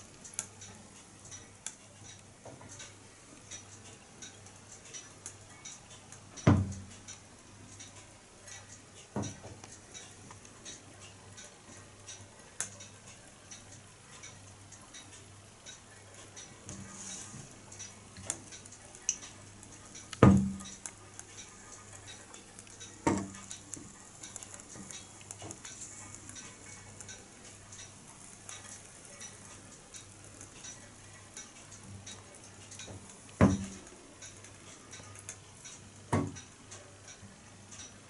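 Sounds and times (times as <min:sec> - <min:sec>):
pop-pop boat ticking: 0:00.0 - 0:38.0.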